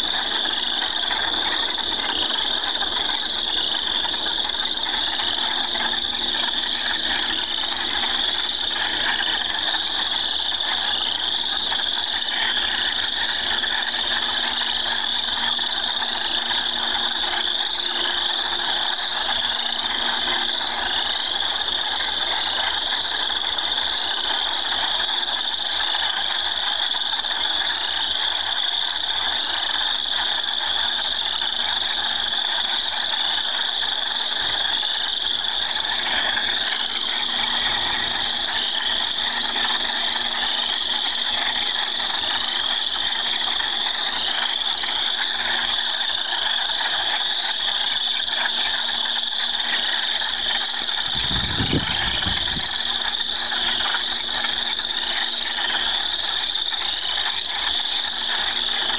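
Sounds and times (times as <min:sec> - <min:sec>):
frogs trilling: 0:00.0 - 0:58.9.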